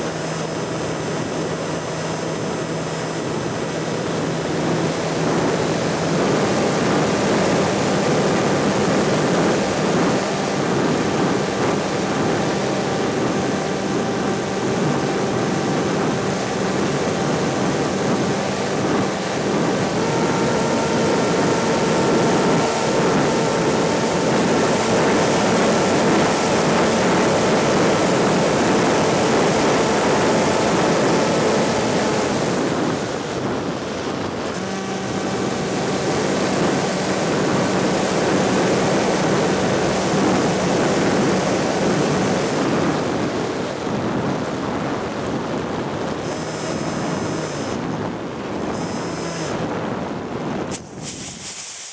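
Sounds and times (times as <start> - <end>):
airflow rushing over microphone: 0.0 - 51.9.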